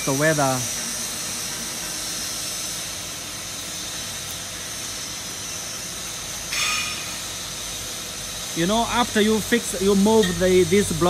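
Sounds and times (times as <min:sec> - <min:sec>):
steady hissing noise: 0:00.0 - 0:11.0.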